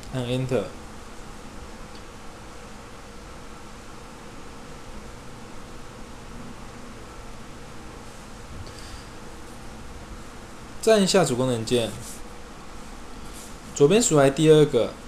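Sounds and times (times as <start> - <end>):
background hiss: 0.0 - 15.0
faint hum: 0.0 - 15.0.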